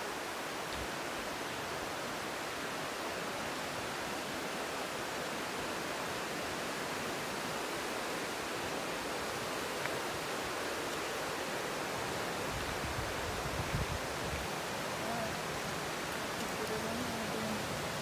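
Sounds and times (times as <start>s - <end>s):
river rapids rushing over rocks: 0.0s - 18.0s.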